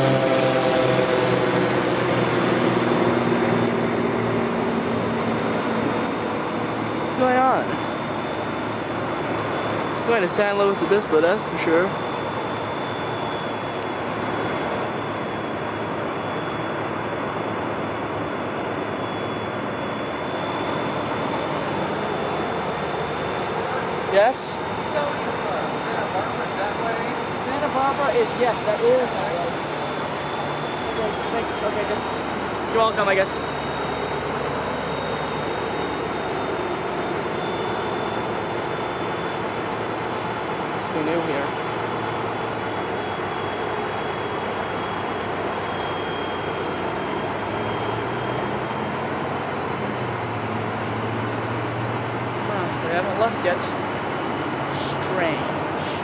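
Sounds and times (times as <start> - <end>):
thin constant whine: 0.0 - 56.0
locomotive engine idling: 3.6 - 56.0.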